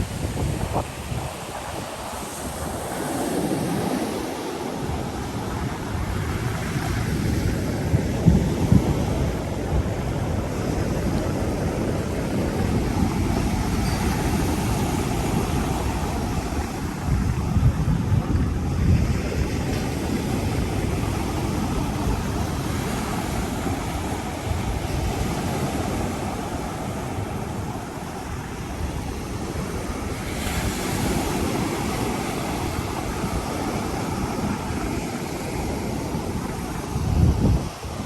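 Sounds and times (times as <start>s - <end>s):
surf rushing: 0.0s - 38.0s
wind buffeting microphone: 0.0s - 38.0s.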